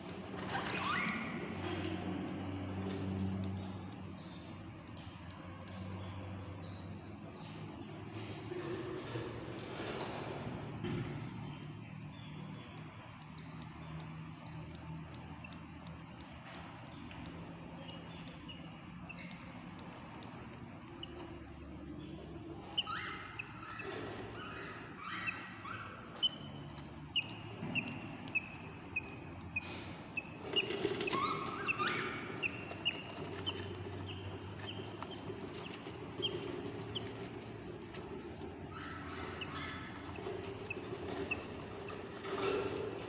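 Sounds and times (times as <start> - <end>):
nestlings chirping: 0.1 - 43.0
steady low hum: 1.3 - 43.0.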